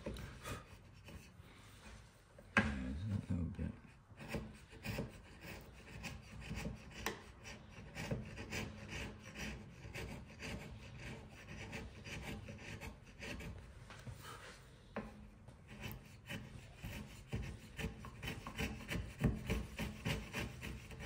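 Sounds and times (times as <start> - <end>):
chisel scraping wood: 0.0 - 1.4, 3.1 - 14.4, 15.0 - 21.0.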